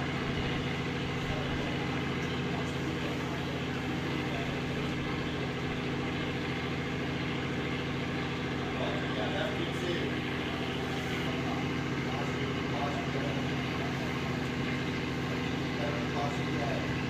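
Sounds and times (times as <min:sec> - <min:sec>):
crowd murmur: 0:00.0 - 0:17.0
low engine drone: 0:00.0 - 0:17.0.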